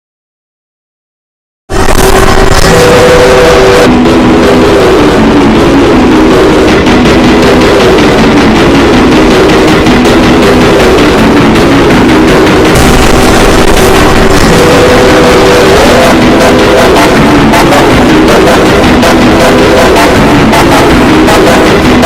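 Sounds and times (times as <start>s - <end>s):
emergency alert alarm: 1.8s - 22.0s.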